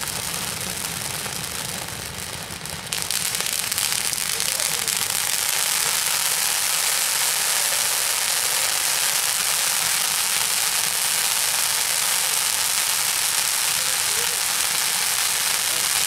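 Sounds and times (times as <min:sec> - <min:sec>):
fireworks hissing sparks: 0:00.0 - 0:16.0.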